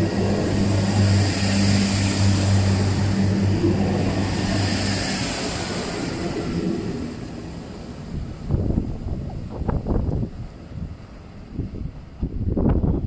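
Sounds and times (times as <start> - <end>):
rushing air: 0.0 - 13.0
train diesel engine drone: 0.0 - 13.0.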